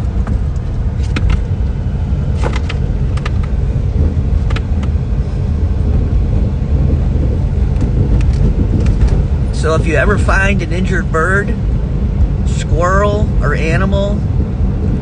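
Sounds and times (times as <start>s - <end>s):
car tyres rumbling on bumpy road: 0.0s - 15.0s.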